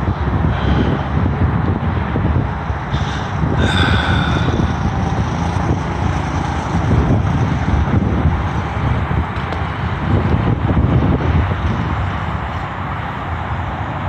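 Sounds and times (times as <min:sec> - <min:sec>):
go-kart engine droning: 0:00.0 - 0:12.6.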